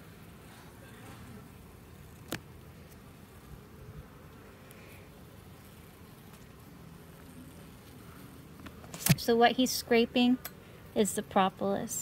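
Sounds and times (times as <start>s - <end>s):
bees buzzing: 0.0s - 11.9s.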